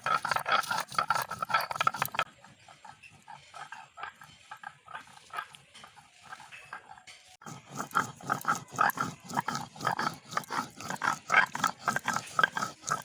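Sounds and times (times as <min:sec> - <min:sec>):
stone grinding on stone slab: 0:00.0 - 0:13.0.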